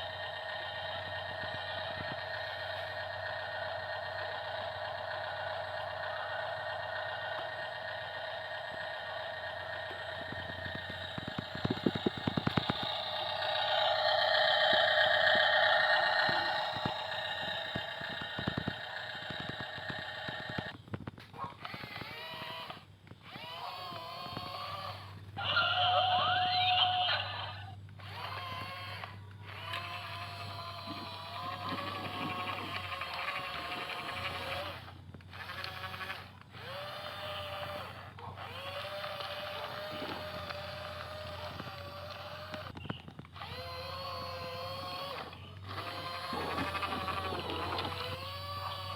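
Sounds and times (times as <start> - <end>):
toy electric motor whining: 0.0 - 48.9.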